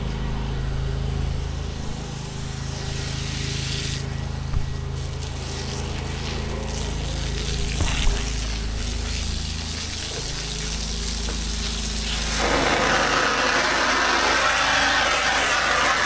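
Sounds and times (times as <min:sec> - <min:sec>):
pressure washer engine running: 0:00.0 - 0:16.0
high-pressure water spray hissing: 0:01.6 - 0:04.2, 0:05.0 - 0:16.0.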